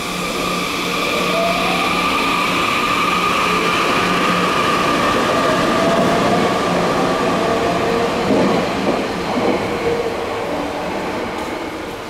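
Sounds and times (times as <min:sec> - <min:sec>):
train wheel and running noise: 0:00.0 - 0:12.0.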